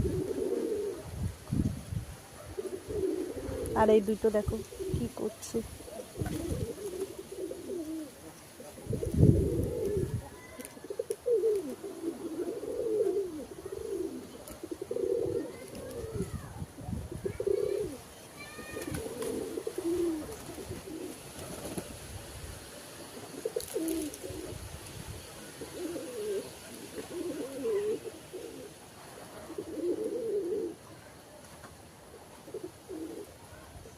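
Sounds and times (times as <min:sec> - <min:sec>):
pigeons cooing: 0:00.0 - 0:31.3, 0:32.1 - 0:33.9.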